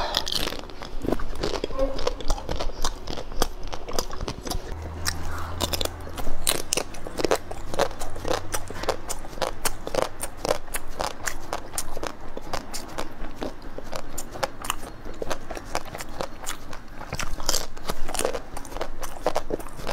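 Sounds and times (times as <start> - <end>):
crunching and chewing ice cream: 0.0 - 19.9.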